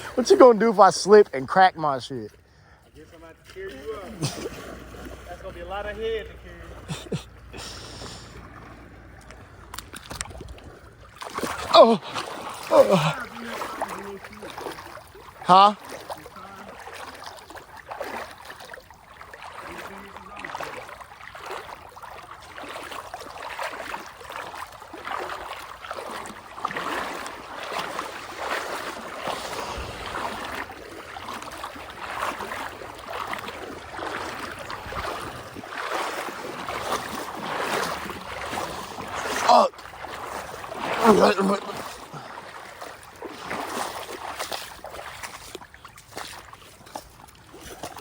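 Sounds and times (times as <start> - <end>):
water rushing and splashing: 0.0 - 48.0.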